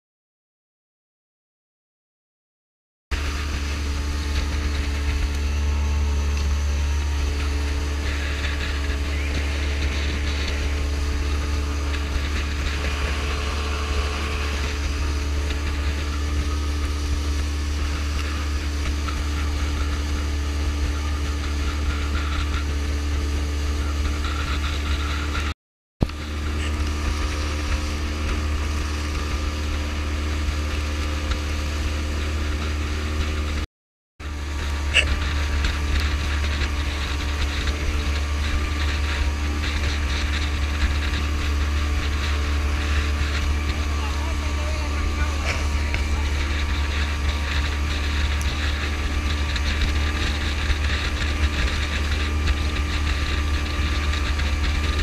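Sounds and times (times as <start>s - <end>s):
outboard motor running: 3.1s - 33.6s, 34.2s - 55.0s
rushing wind: 3.1s - 33.6s, 34.2s - 55.0s.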